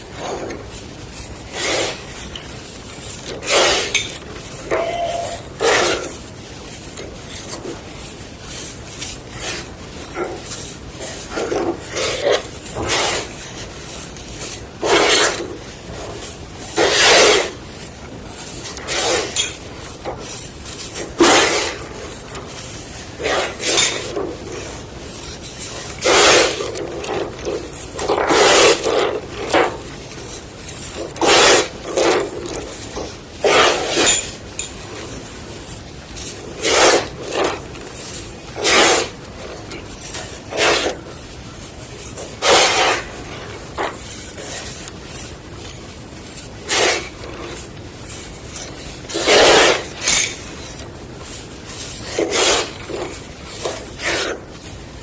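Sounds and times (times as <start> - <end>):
chalk crunching: 0.0 - 55.0
soft crumbling: 0.0 - 55.0.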